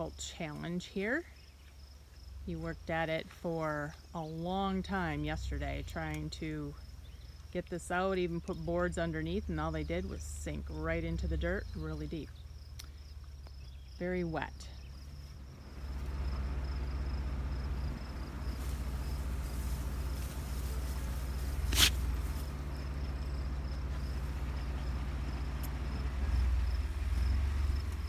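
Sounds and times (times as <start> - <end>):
insects trilling: 0.0 - 28.0
low steady rumble: 0.0 - 28.0.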